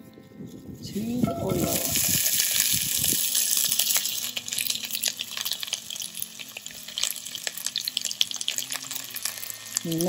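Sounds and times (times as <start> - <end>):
crackles and pops of frying: 0.9 - 10.0
onions sizzling in hot oil: 1.0 - 10.0.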